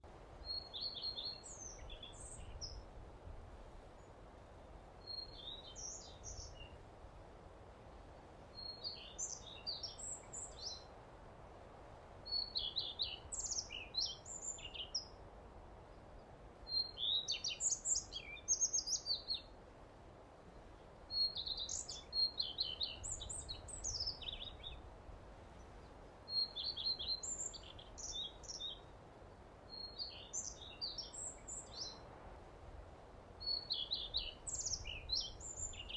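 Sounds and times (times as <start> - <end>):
faint steady background noise: 0.0 - 35.9.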